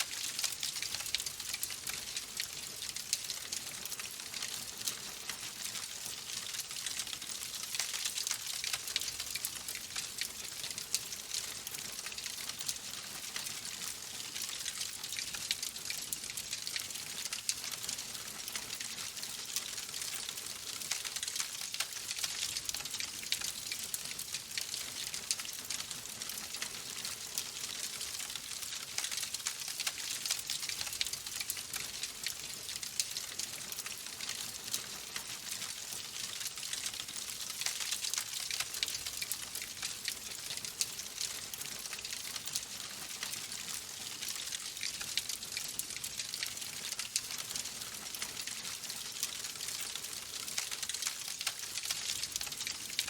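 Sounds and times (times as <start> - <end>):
log fire crackling: 0.0 - 53.0.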